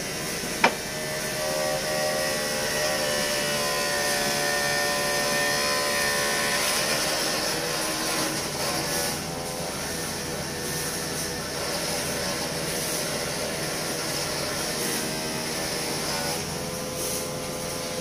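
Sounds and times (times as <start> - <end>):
electric pump motor whining: 0.0 - 18.0.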